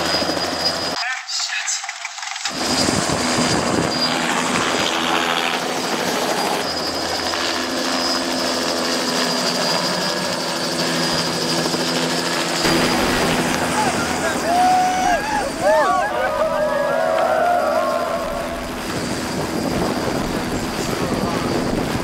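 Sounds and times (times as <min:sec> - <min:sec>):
helicopter engine hum: 0:00.0 - 0:01.0, 0:02.5 - 0:22.0
helicopter rotor noise: 0:00.0 - 0:22.0.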